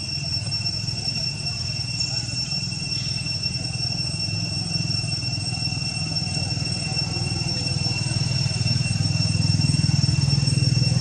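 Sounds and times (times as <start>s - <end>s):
high-pitched whines: 0.0s - 11.0s.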